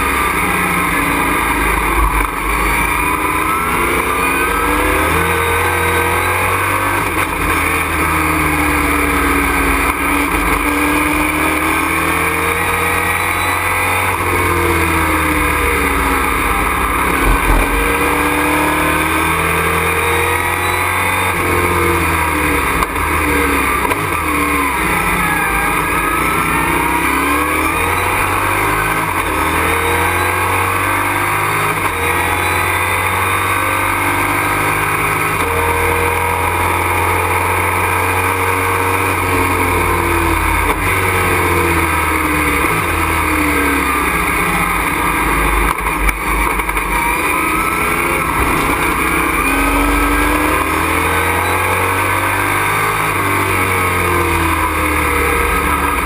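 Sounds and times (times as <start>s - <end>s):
race truck engine under load: 0.0s - 56.0s.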